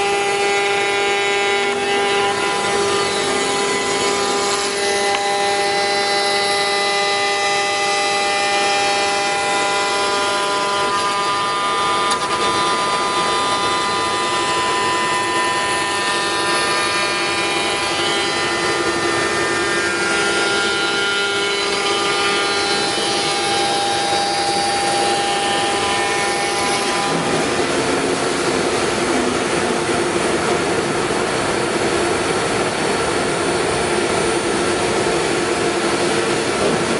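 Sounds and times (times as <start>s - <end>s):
router spindle whine: 0.0s - 36.9s.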